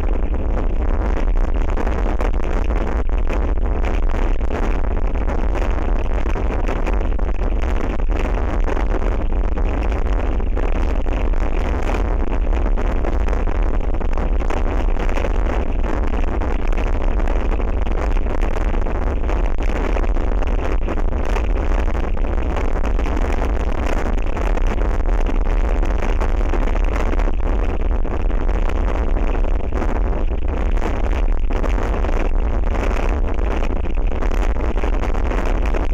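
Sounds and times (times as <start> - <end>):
strong wind on microphone: 0.0 - 35.9.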